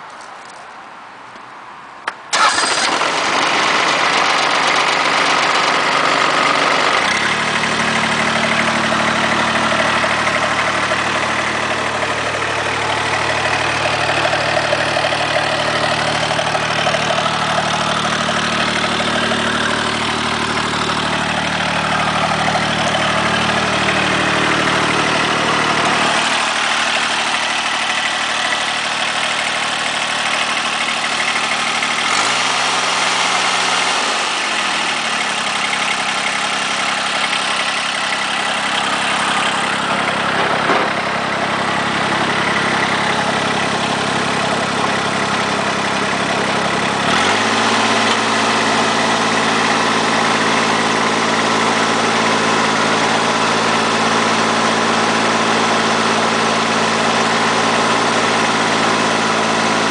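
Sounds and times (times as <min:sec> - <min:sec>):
diesel engine idling: 0:02.3 - 0:59.9.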